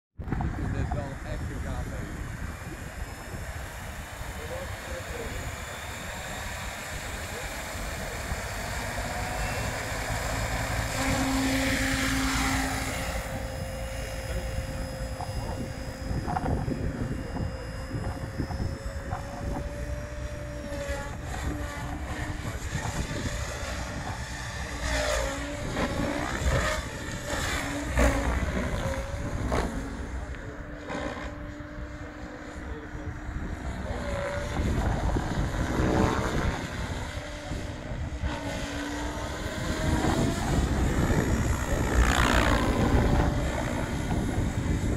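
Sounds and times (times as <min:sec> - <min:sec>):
low wind rumble on microphone: 0:00.2 - 0:44.9
model helicopter rotor whine: 0:00.3 - 0:44.9.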